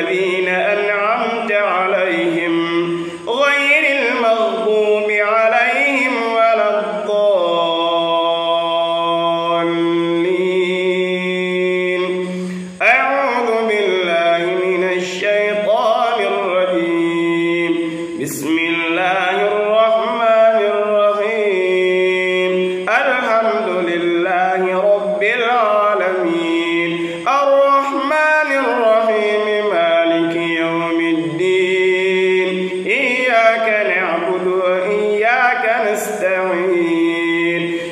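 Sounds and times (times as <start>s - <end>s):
man chanting recitation: 0.0s - 37.9s.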